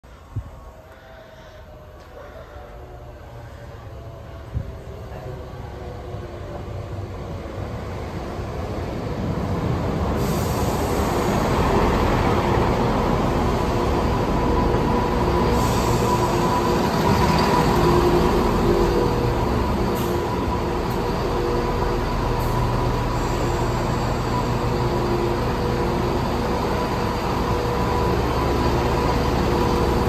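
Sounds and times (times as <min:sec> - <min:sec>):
diesel train engines: 0:00.0 - 0:30.0
train wheels on rails: 0:04.3 - 0:30.0.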